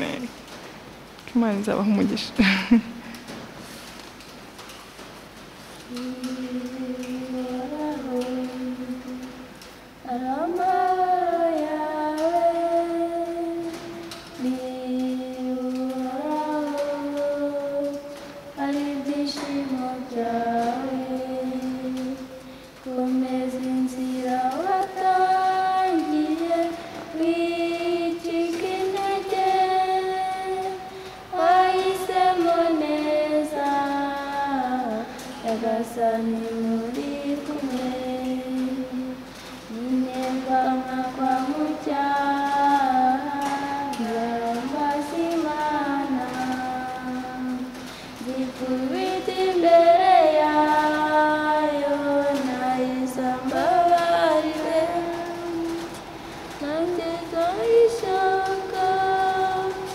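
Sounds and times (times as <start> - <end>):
men singing unaccompanied: 5.9 - 9.4, 10.0 - 59.9.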